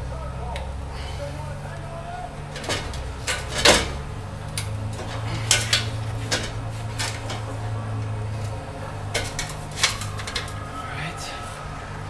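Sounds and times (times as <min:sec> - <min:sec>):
metal pipes clanking: 0:00.0 - 0:11.4
steady low hum: 0:00.0 - 0:12.0.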